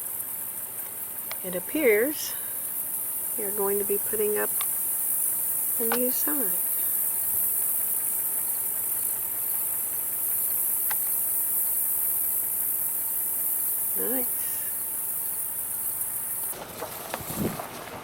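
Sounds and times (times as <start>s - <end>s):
insects chorus: 0.0s - 17.8s.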